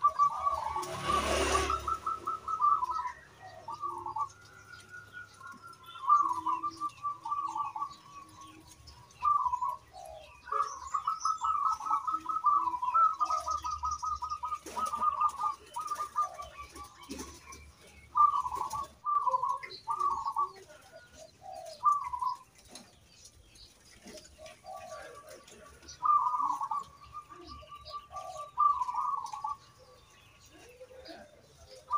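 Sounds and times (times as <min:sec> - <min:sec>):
dove cooing: 0:00.0 - 0:31.9.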